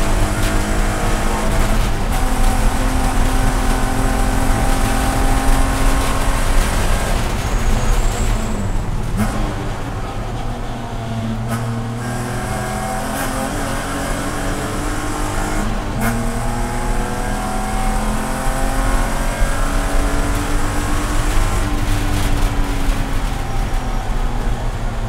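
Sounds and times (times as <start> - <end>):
race car engine at full throttle: 0.0 - 25.0
road and wind noise: 0.0 - 25.0.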